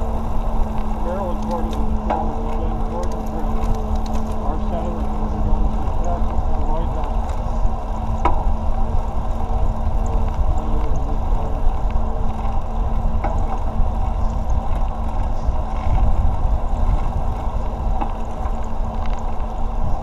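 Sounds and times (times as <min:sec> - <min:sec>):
tyre noise on asphalt: 0:00.0 - 0:20.0
wind on microphone: 0:00.0 - 0:20.0.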